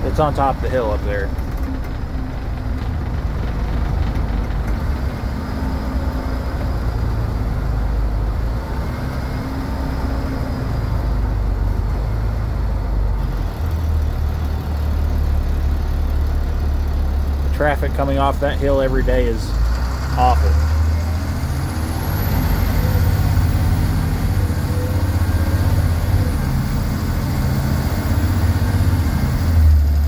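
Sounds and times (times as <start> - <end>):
bus diesel engine droning: 0.0 - 30.0
road and cab noise: 0.0 - 30.0.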